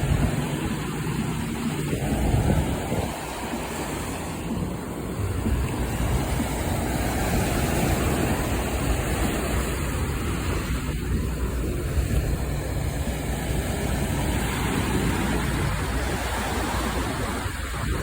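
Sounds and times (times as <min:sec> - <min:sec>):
surf washing onto beach: 0:00.0 - 0:18.0
wind buffeting microphone: 0:00.0 - 0:18.0.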